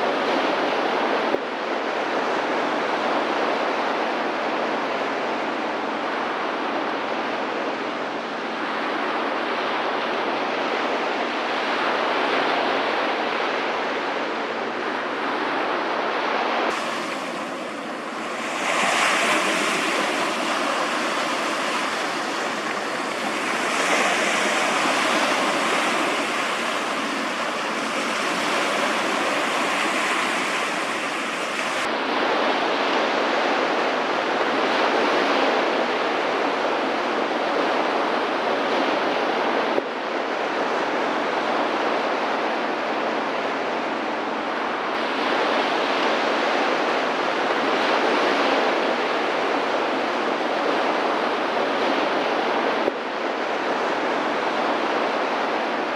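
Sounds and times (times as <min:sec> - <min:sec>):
sea waves rushing: 0:00.0 - 0:55.9
wind buffeting microphone: 0:00.0 - 0:55.9.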